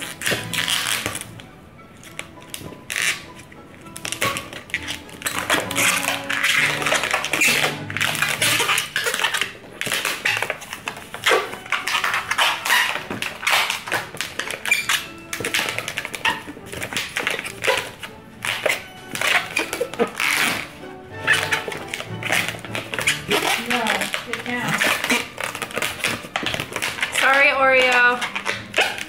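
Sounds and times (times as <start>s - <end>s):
background music: 0.0s - 29.0s
balloon squeaking and rubbing: 0.0s - 29.0s.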